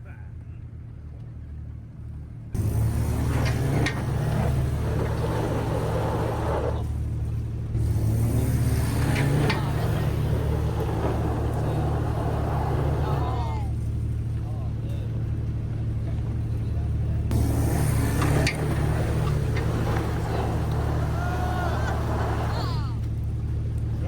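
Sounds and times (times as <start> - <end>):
car engine running: 2.1 - 24.0.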